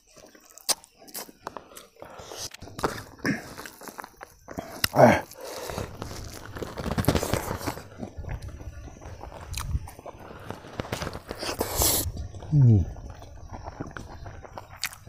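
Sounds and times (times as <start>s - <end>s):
person chewing with lip smacks: 0.0s - 15.0s.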